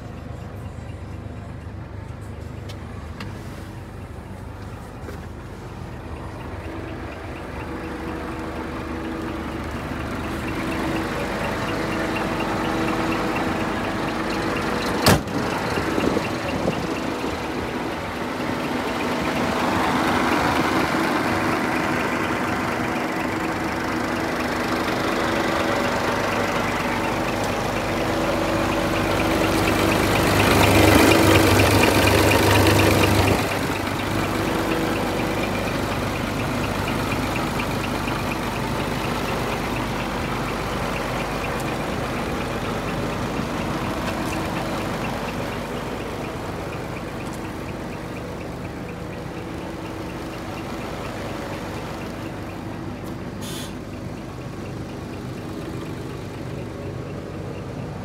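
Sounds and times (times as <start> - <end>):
truck diesel engine idling: 0.0 - 58.0.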